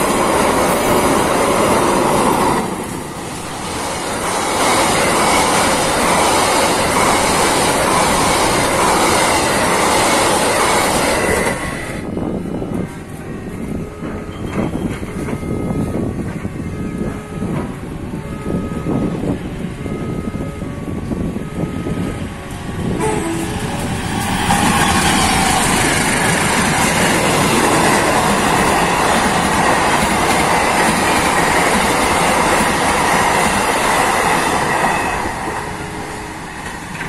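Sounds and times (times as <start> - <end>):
train wheels rushing over rails: 0.0 - 37.0.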